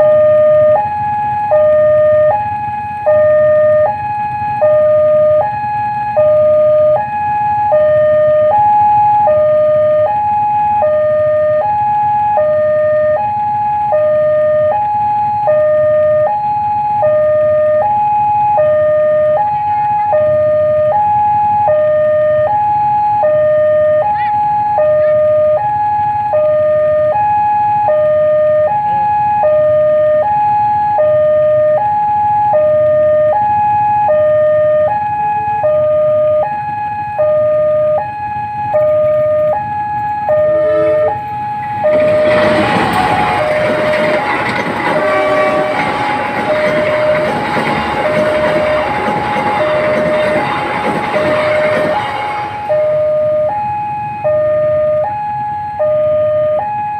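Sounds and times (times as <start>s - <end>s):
level crossing two-tone alarm: 0.0s - 56.9s.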